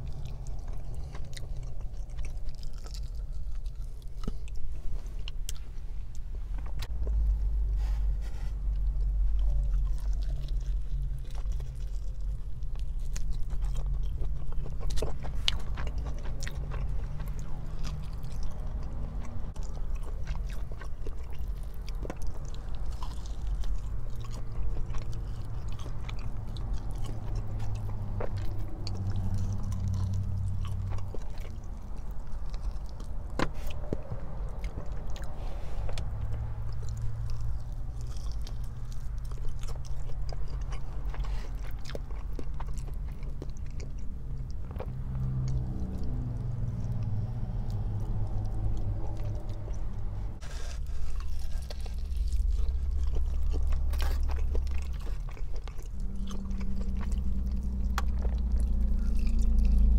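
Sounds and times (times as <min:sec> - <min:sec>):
chewing and biting food: 0:00.0 - 0:59.9.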